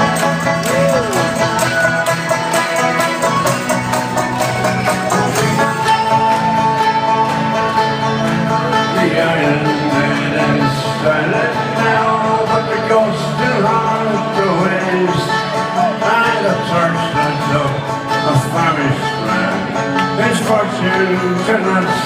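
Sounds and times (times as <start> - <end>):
banjo: 0.0 - 22.0
guitar: 0.0 - 22.0
live folk-punk band playing: 0.0 - 22.0.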